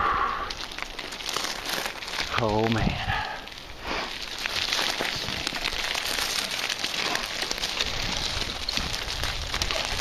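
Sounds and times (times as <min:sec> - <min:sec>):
bike tyres on loose gravel: 0:00.0 - 0:10.0.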